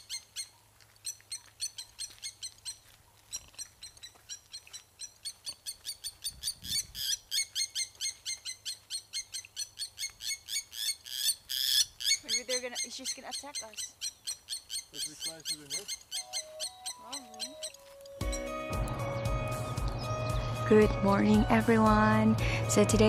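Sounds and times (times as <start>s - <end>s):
bird alarm calls: 0.0s - 20.8s.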